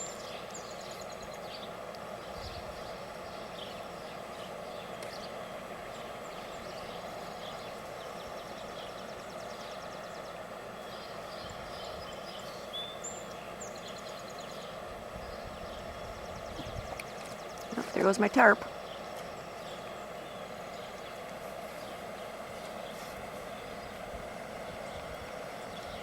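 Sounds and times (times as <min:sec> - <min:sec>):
outdoor background hum: 0:00.0 - 0:26.0.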